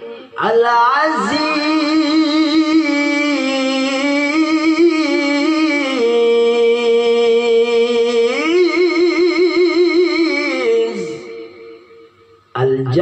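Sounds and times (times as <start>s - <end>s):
man chanting recitation: 0.0s - 13.0s.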